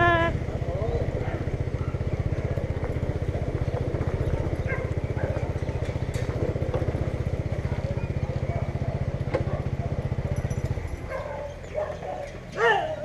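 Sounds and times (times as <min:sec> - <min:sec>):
vehicle engine pulsing: 0:00.0 - 0:13.0.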